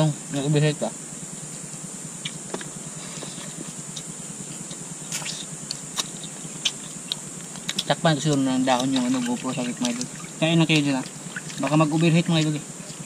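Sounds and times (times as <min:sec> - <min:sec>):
high insect hum: 0:00.0 - 0:13.0.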